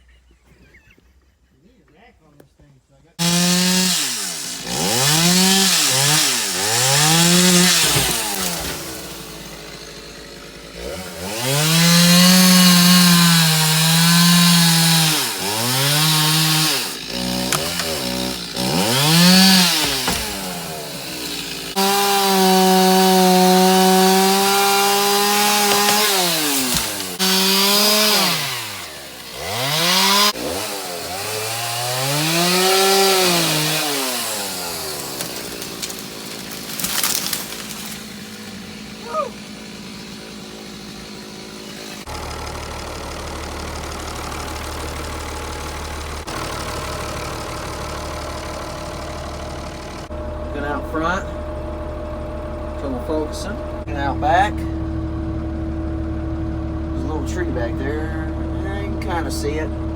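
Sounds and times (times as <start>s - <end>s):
chainsaw revving and idling: 3.2s - 59.9s.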